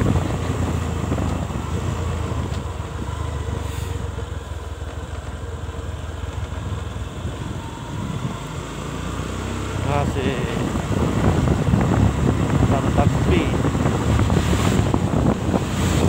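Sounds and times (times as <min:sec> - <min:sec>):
motorcycle engine running: 0:00.0 - 0:16.0
road and wind noise: 0:00.0 - 0:16.0.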